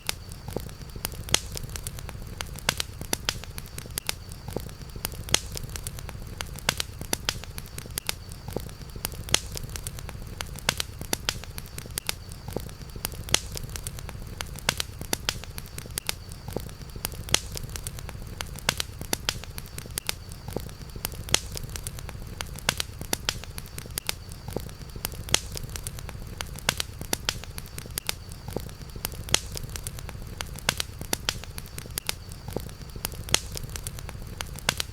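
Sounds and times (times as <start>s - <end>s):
campfire crackling: 0.0s - 34.9s.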